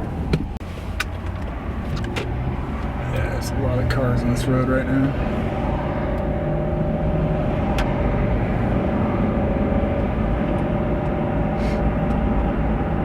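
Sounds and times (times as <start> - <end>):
car tyre and engine rumble: 0.0 - 13.0.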